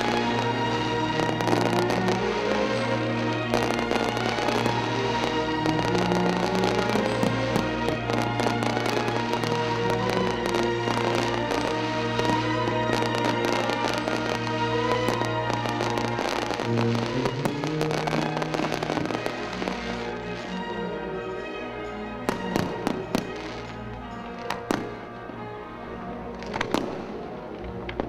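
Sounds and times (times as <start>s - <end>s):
fireworks crackling: 0.0s - 28.0s
music with long held notes: 0.0s - 28.0s.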